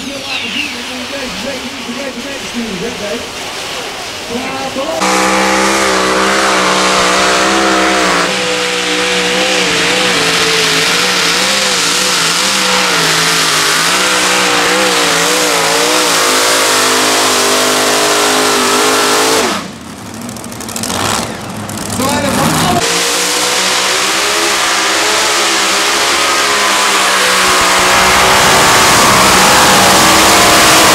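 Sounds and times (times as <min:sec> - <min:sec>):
pulling tractor engines at full throttle: 0:00.0 - 0:30.9.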